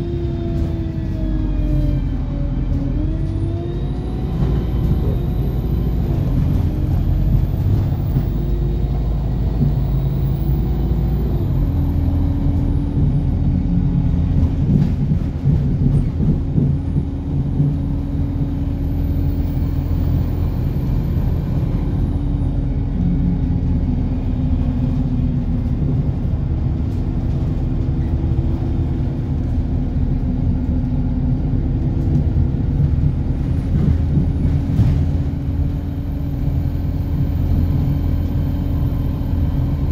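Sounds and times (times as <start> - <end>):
tyres on the road: 0.0 - 39.9.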